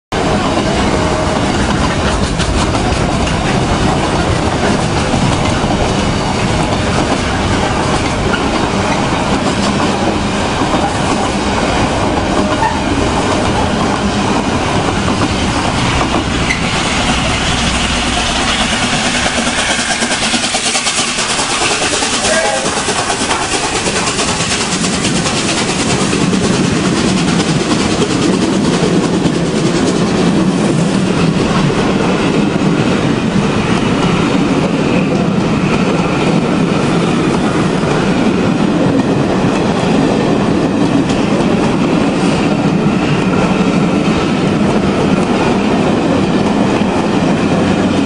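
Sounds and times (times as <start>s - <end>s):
steam locomotive passing: 0.1s - 48.0s
train wheels clattering on rails: 0.1s - 48.0s.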